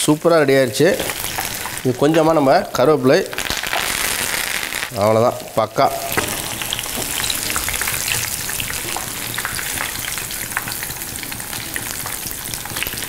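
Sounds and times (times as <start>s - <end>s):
oil sizzling while deep-frying: 0.0s - 13.0s.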